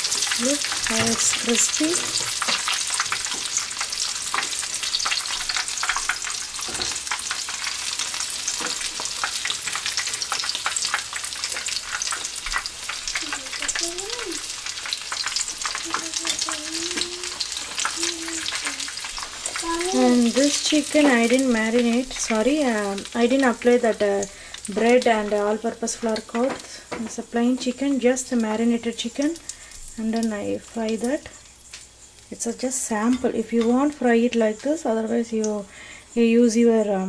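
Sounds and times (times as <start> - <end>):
chicken sizzling in hot oil: 0.0 - 36.1.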